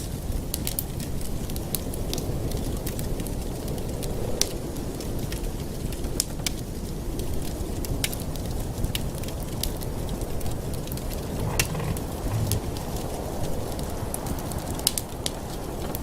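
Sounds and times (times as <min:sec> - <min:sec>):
wood fire crackling and popping: 0:00.5 - 0:16.0.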